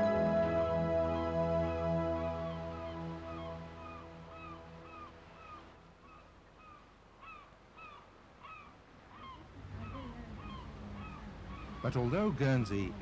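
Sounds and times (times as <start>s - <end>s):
birds honking calls: 0.0s - 12.9s.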